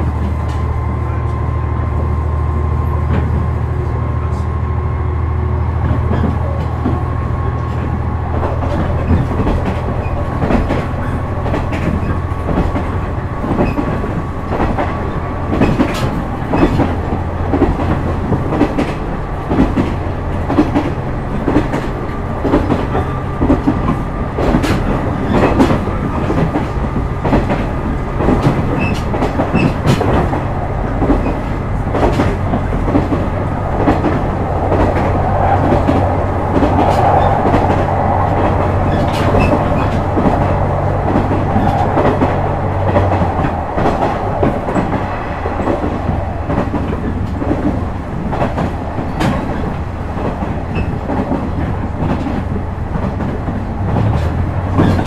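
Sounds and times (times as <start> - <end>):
railcar engine humming: 0.0 - 55.0
wheels clicking over rail joints: 7.6 - 55.0.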